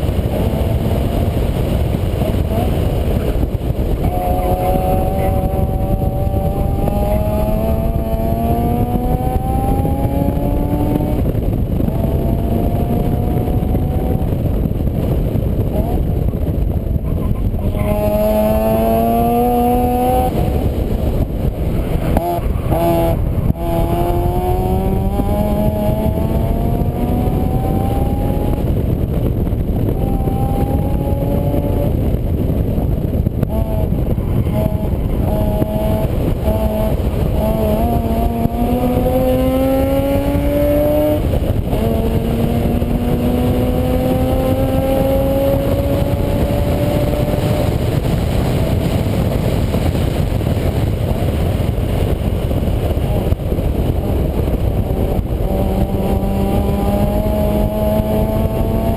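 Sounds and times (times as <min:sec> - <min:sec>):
heavy low rumble: 0:00.0 - 0:58.9
vehicle engine shifting gears: 0:00.0 - 0:58.9.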